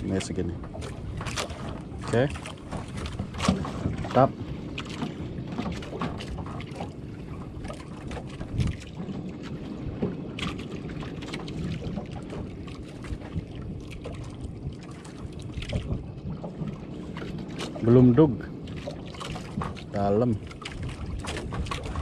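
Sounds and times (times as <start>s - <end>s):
water lapping against boat: 0.0s - 22.0s
wind on microphone: 0.0s - 22.0s.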